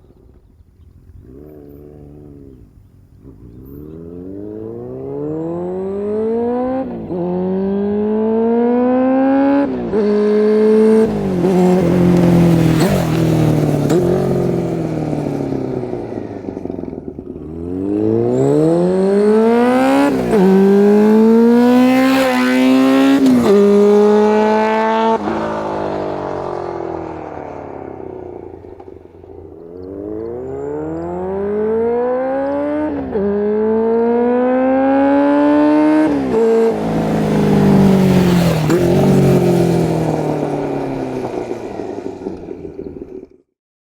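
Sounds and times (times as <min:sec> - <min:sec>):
motorcycle accelerating through gears: 0:00.0 - 0:43.5.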